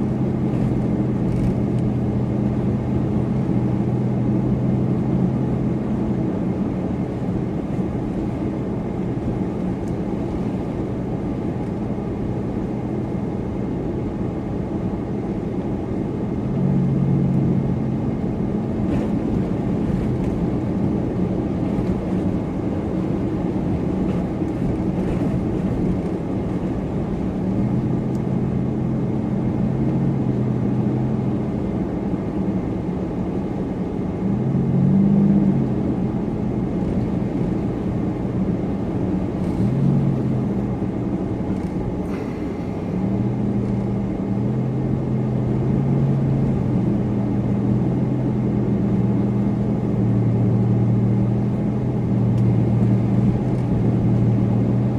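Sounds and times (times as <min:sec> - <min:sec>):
low engine drone: 0:00.0 - 0:54.9
road and tyre noise: 0:00.0 - 0:54.9.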